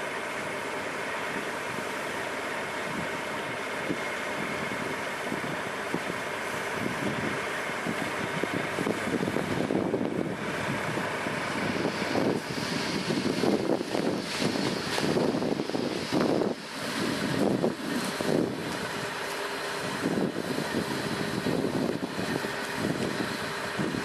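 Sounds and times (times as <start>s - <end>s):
diesel truck engine running: 0.0s - 24.0s
wind buffeting microphone: 2.8s - 19.2s, 19.8s - 24.0s.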